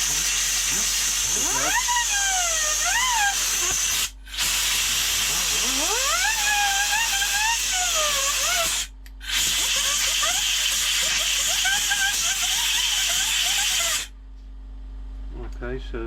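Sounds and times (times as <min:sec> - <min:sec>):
compressed air hissing: 0:00.0 - 0:14.1
cooling fan whining: 0:00.0 - 0:16.0.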